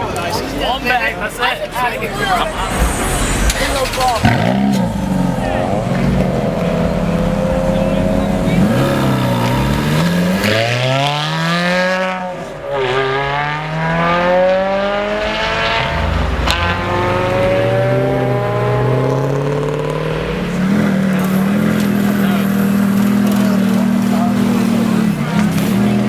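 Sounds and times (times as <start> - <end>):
sports car engine accelerating: 1.6 - 26.0.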